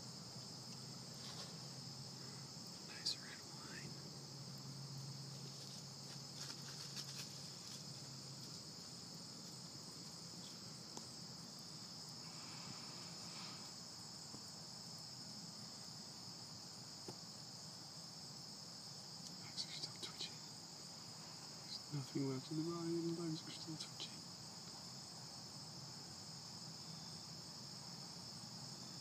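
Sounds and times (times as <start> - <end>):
insect chorus trilling: 0.0 - 29.0.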